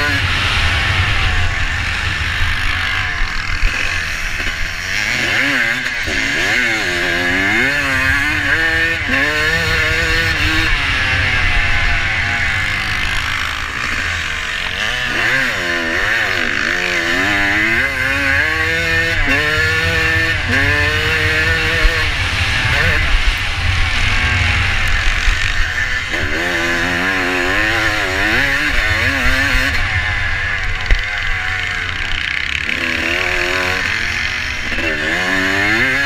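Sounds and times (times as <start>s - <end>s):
motorcycle engine revving through gears: 0.0s - 36.0s
steady rushing noise: 0.0s - 36.0s.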